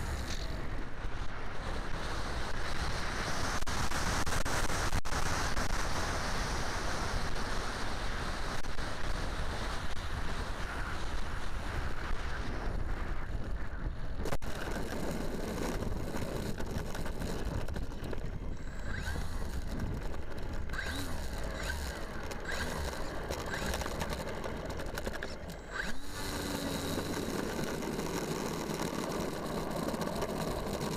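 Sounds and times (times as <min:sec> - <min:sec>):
wind rushing over microphone: 0:00.0 - 0:28.1
faint steady whine: 0:00.0 - 0:30.9.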